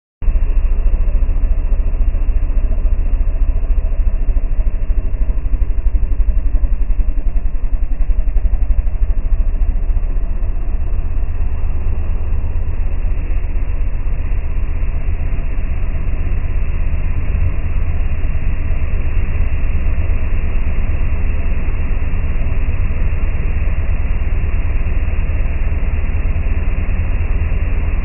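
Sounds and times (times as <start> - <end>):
car engine idling: 0.2 - 28.0.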